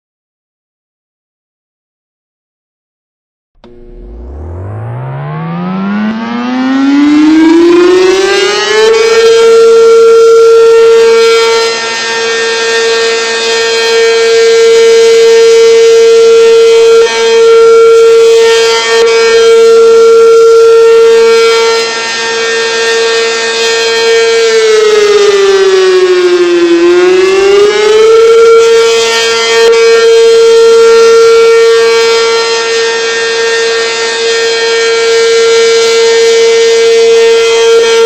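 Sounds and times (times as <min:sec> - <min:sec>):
siren winding up: 0:03.6 - 0:38.0.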